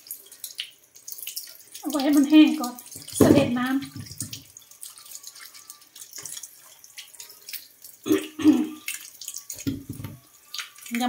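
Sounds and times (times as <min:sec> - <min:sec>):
tap water splashing in sink: 0:00.0 - 0:11.0.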